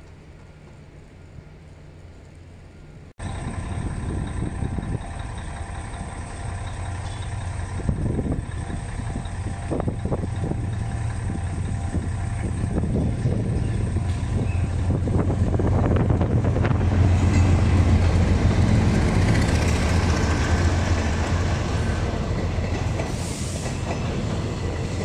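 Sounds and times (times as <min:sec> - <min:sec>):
diesel locomotive engine rumble: 0:00.0 - 0:25.0.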